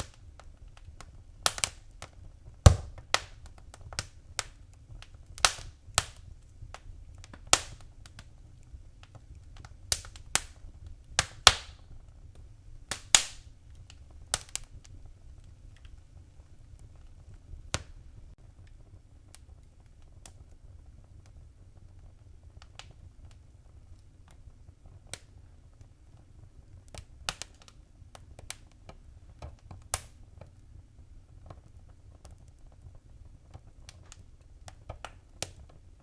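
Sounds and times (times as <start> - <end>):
fire crackling and popping: 0.0 - 36.0
low rumble of flames: 0.0 - 36.0.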